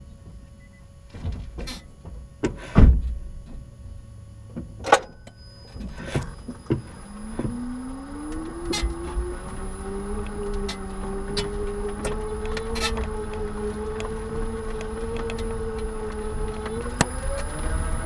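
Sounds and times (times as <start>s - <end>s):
low whine rising in pitch: 3.0s - 18.0s.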